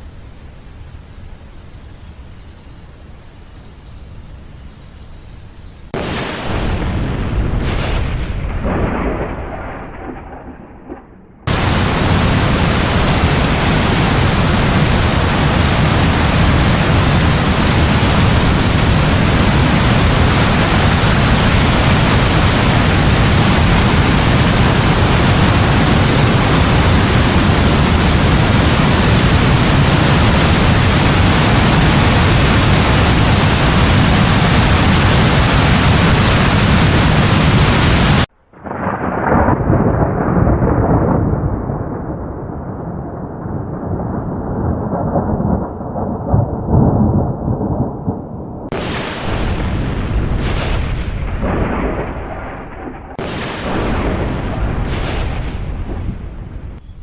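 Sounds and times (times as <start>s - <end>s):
heavy rain pouring: 0.0s - 55.2s
thunder rumbling: 0.0s - 57.0s.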